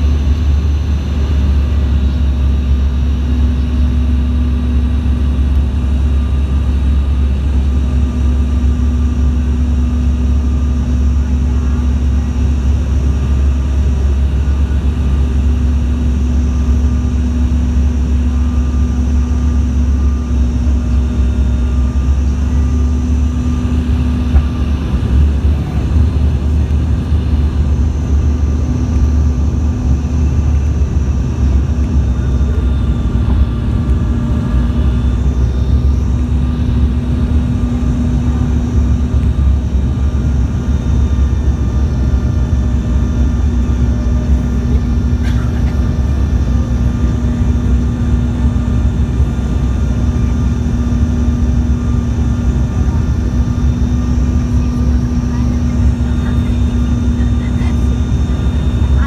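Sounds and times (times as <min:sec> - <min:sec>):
airliner cabin engine rumble: 0:00.0 - 0:59.0
steady hum: 0:00.0 - 0:59.0.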